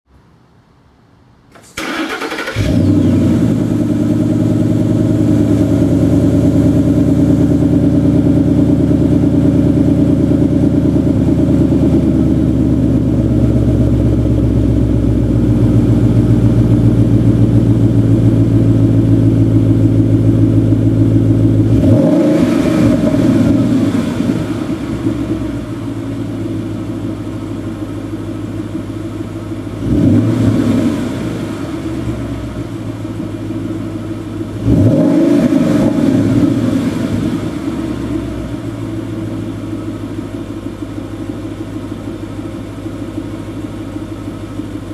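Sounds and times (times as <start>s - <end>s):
car engine starting and idling: 1.4s - 44.9s.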